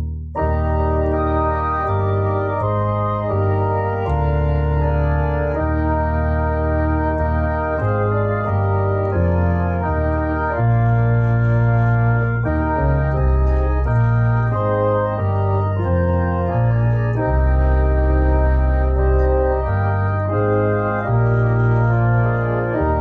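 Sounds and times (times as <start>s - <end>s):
organ playing hymn chords: 0.0s - 23.0s.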